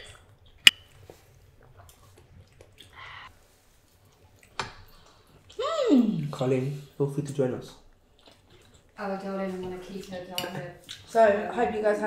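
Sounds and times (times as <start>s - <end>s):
soft chewing: 0.0s - 7.1s, 7.7s - 11.3s.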